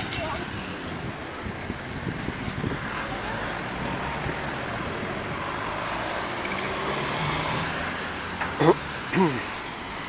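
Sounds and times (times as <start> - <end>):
passing cars and buses: 0.0 - 10.0.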